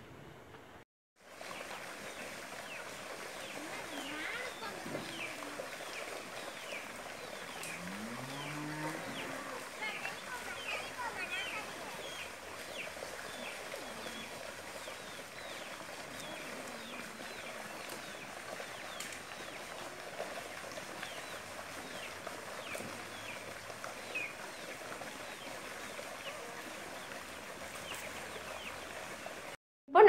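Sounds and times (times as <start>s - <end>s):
soft outdoor background noise: 0.0s - 30.0s
birds chirping: 1.4s - 29.6s.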